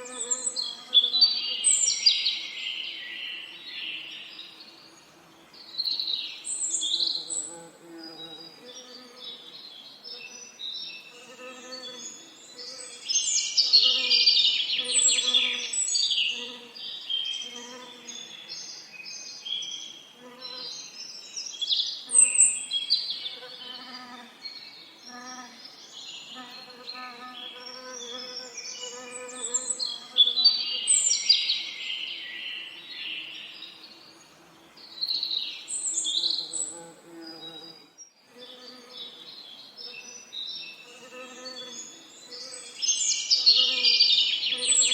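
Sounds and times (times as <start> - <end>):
songbirds singing and calling: 0.0 - 44.9.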